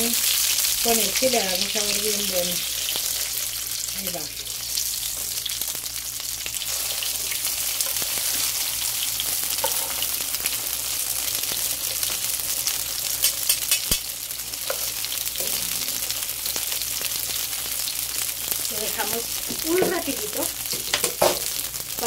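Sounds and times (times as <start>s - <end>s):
bread frying in hot oil: 0.0s - 22.0s.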